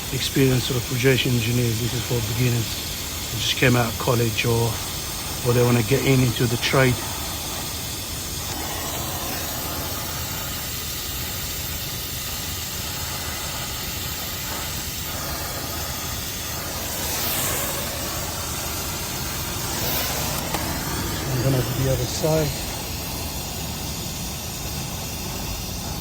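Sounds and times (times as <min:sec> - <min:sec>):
brazing torch flame hissing: 0:00.0 - 0:26.0.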